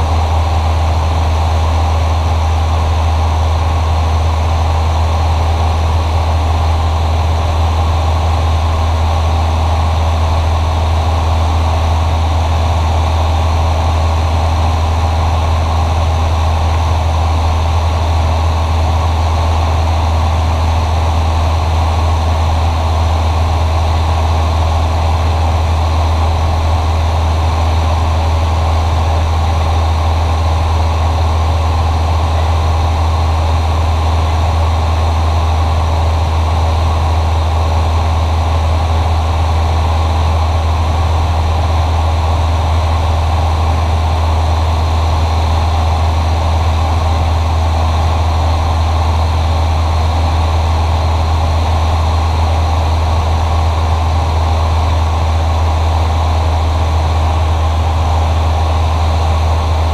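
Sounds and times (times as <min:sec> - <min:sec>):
airplane engine droning: 0:00.0 - 0:59.9.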